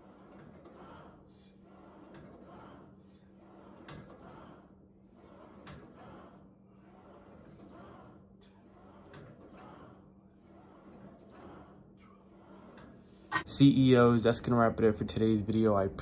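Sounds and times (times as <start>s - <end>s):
cable rubbing over pulleys: 0.0s - 15.8s
steady low hum: 0.0s - 16.0s.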